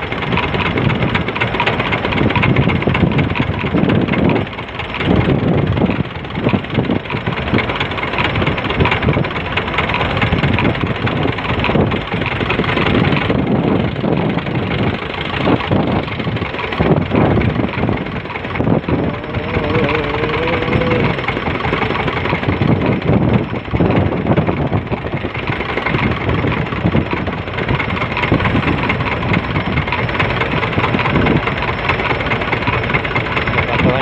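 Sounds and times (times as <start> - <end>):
boat engine running: 0.0 - 34.0
wind buffeting the microphone: 0.0 - 34.0.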